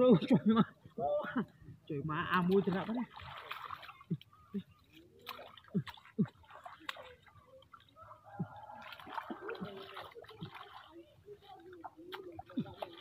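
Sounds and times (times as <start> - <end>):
hands squelching in muddy puddle: 2.3 - 13.0.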